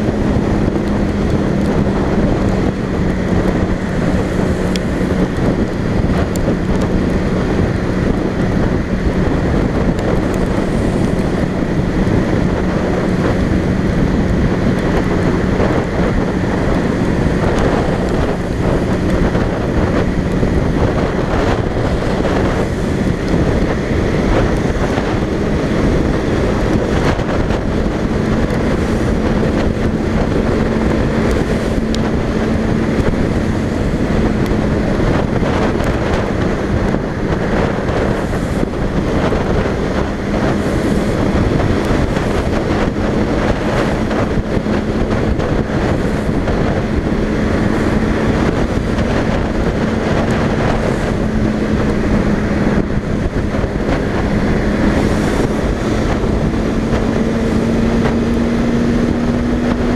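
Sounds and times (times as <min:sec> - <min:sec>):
motorcycle engine drone: 0:00.0 - 0:59.9
wind rushing on microphone: 0:00.0 - 0:59.9.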